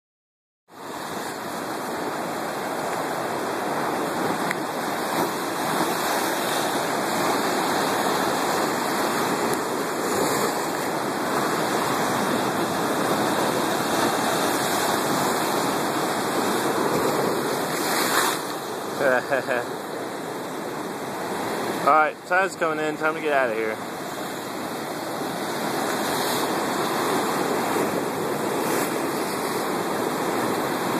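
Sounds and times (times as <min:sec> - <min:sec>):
surf washing over rocks: 0:00.8 - 0:30.9.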